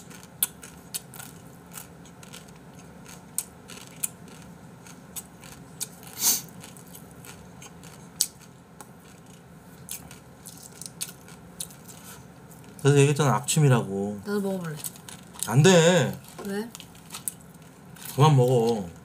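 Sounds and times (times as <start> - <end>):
dry noodles crunching: 0.0 - 12.9, 14.8 - 19.0.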